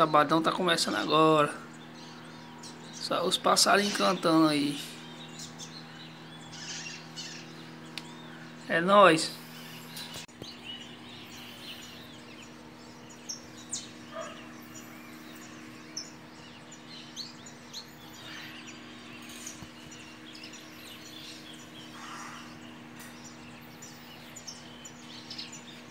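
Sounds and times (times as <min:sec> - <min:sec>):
small birds chirping and singing: 0:00.0 - 0:25.9.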